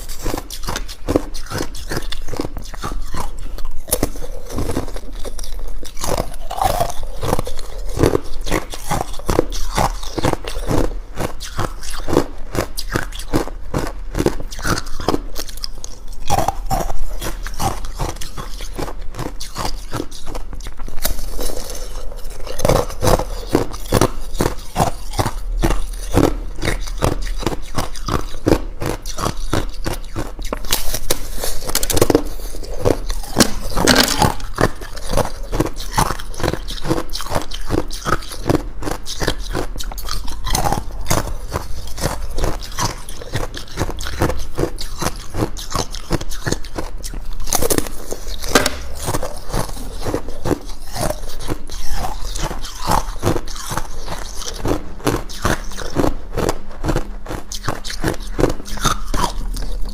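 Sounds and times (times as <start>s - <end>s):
person crunching ice cubes: 0.0s - 59.9s.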